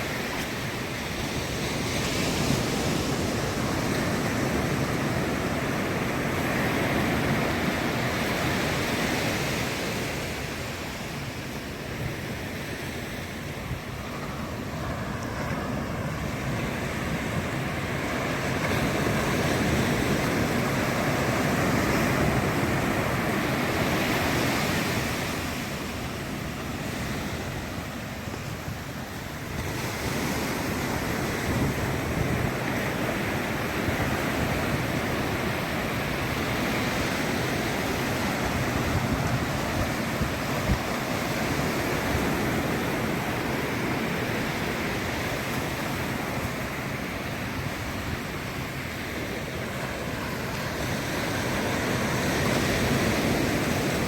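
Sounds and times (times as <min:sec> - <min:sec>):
ocean surf breaking: 0:00.0 - 0:54.0
wind on microphone: 0:00.0 - 0:54.0.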